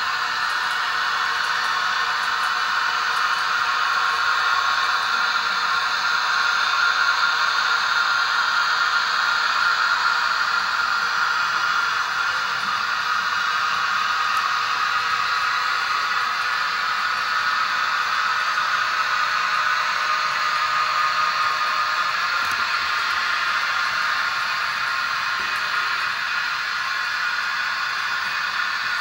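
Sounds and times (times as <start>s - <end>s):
model train motor whirring: 0.0s - 29.0s.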